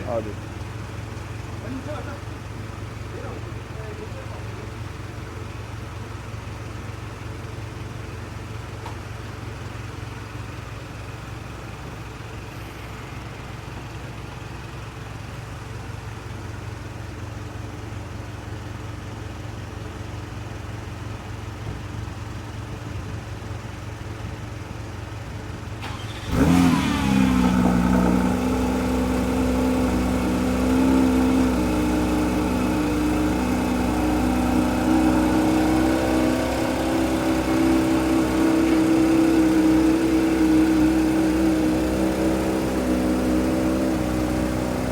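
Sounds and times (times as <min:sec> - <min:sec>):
car engine starting and idling: 0:00.0 - 0:44.9.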